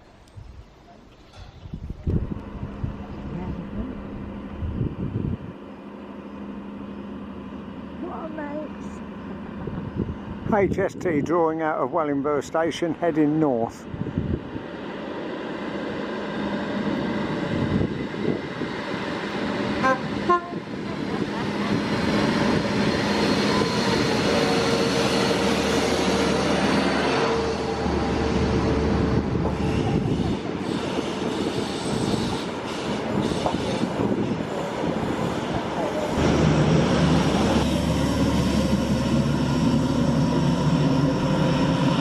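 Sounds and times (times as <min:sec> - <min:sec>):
diesel train engines droning: 0:00.0 - 0:42.0.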